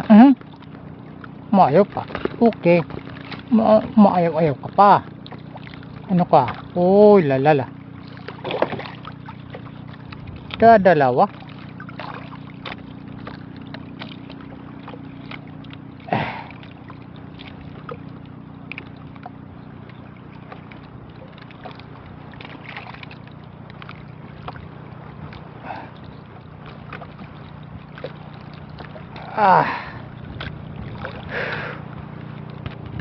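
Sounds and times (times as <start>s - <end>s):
boat engine drone: 0.0s - 33.0s
water sloshing: 0.0s - 33.0s
small knocks on boat: 0.4s - 6.8s, 7.6s - 29.4s, 30.0s - 33.0s.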